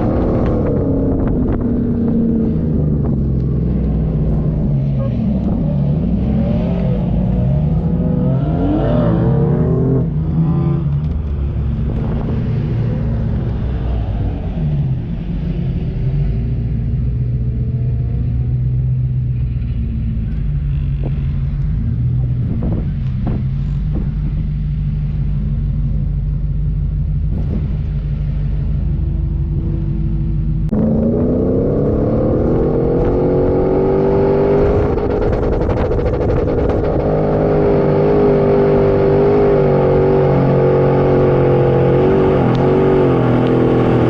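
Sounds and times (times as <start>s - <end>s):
off-road car engine revving: 0.0s - 44.0s.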